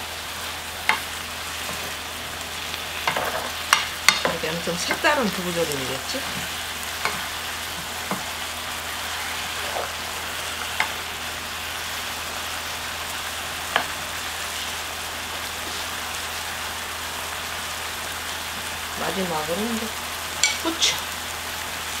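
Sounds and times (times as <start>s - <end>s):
food sizzling and bubbling in pan: 0.0s - 22.0s.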